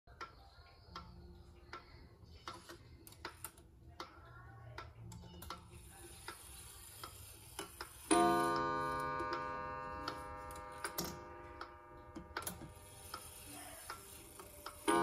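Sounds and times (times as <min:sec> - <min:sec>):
clock ticking: 0:00.1 - 0:15.0.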